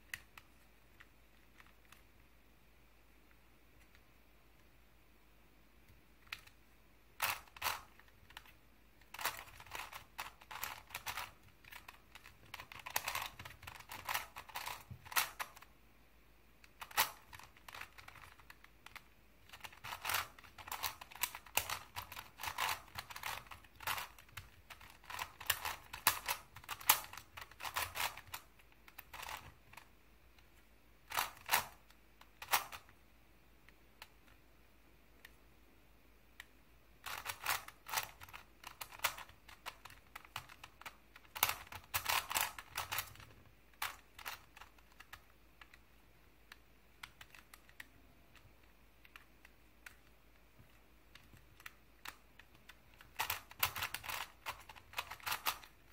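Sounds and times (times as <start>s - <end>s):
puzzle cube clacking: 0.0s - 2.3s, 5.8s - 15.8s, 16.6s - 33.0s, 36.3s - 55.9s.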